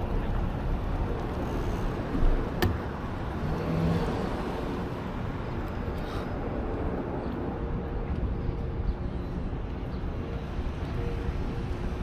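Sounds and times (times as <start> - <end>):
road and traffic noise: 0.0 - 12.0.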